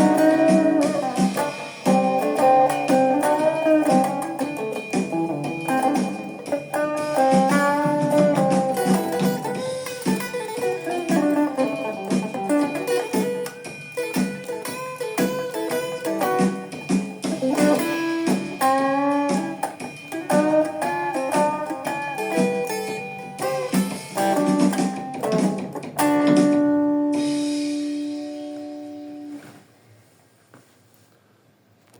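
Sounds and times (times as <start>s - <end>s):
blues guitar playing: 0.0s - 29.5s.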